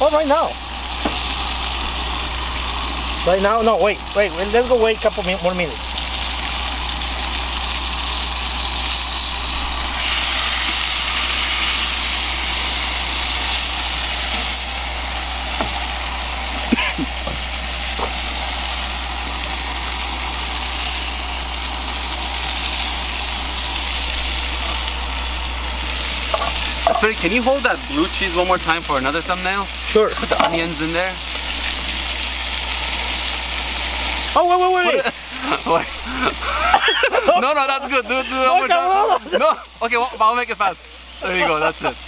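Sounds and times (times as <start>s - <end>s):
burger patties sizzling: 0.0s - 42.0s
camp stove low rumble: 0.0s - 42.0s.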